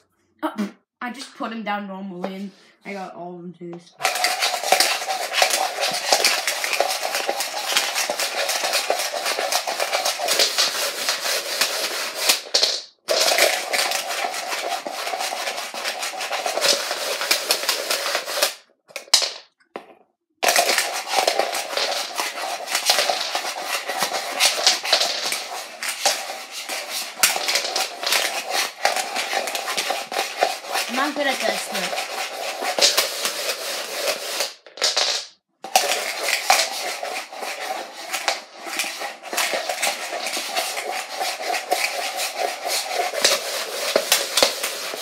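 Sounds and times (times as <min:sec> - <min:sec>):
plastic cup rim scraping floor: 0:03.9 - 0:45.0
dice rattling in a cup: 0:04.0 - 0:45.0.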